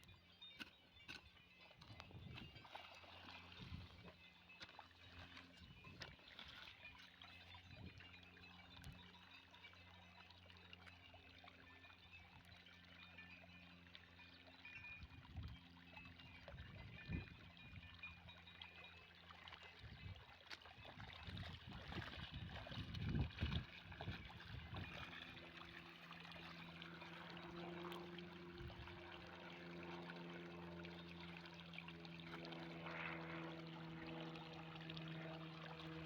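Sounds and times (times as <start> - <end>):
low steady hum: 0.0 - 36.0
water flowing and trickling: 0.9 - 36.0.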